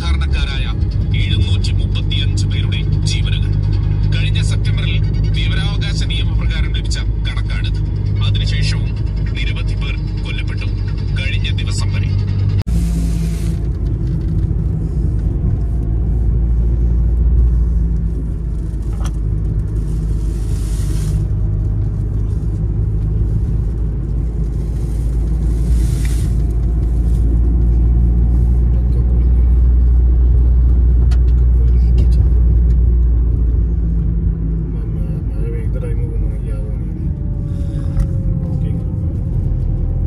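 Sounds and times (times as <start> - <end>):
car road rumble from cabin: 0.0 - 40.0.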